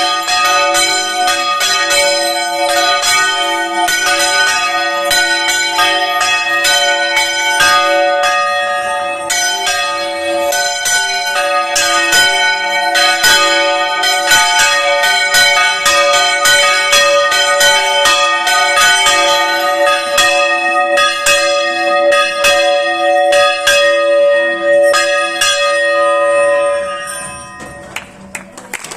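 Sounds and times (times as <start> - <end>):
church bells pealing: 0.0 - 28.8.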